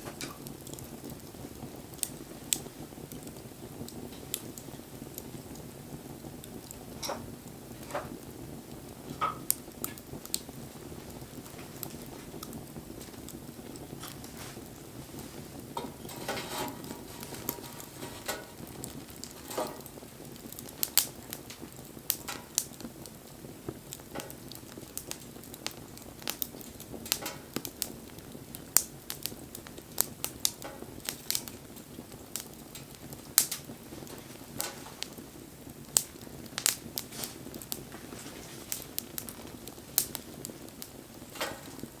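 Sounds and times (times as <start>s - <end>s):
low hiss of flames: 0.0s - 42.0s
wood fire crackling and popping: 0.0s - 42.0s.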